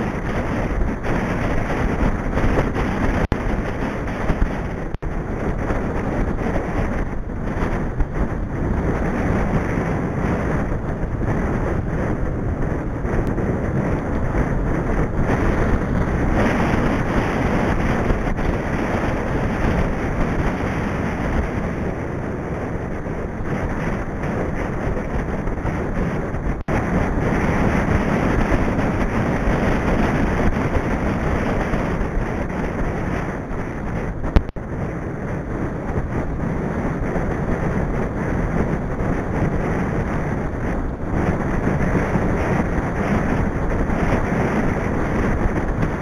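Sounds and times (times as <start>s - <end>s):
bike tyre road noise: 0.0s - 46.0s
wind rushing over microphone: 0.0s - 46.0s.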